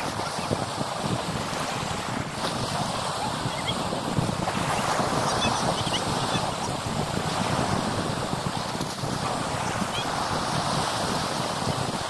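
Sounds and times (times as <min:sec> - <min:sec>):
sea waves against a pier: 0:00.0 - 0:12.0
wind buffeting microphone: 0:00.0 - 0:12.0.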